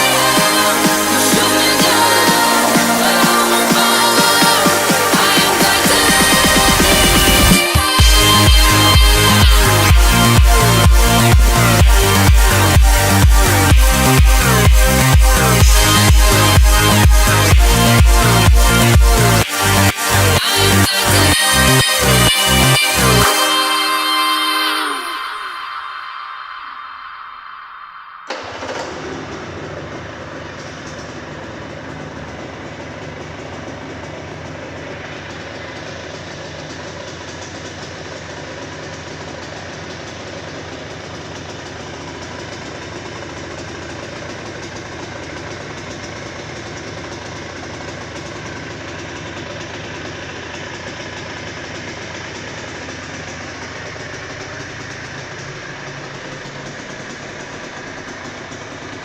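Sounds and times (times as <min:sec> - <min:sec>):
two-stroke engine idling: 0:00.0 - 0:26.6, 0:28.3 - 0:59.0.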